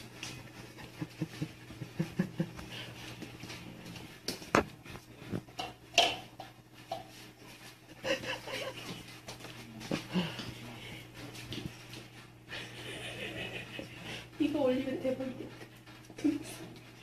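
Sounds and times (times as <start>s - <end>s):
cats scuffling on wooden floor: 0.0s - 17.0s.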